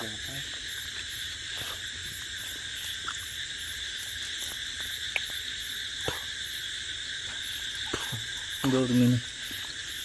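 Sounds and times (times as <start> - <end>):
crickets chirring: 0.0 - 10.0
pulsing insect call: 0.0 - 10.0.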